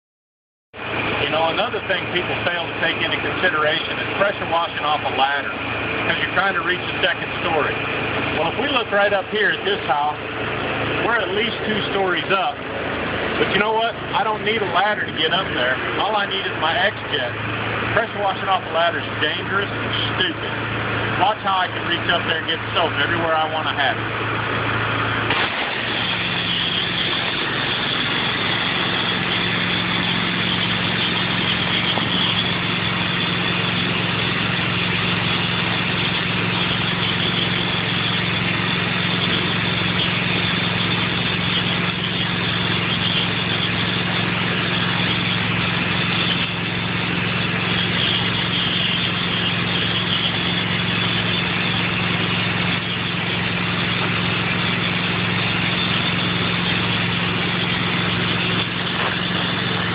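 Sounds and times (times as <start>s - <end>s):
pressure washer engine hum: 0.8s - 59.9s.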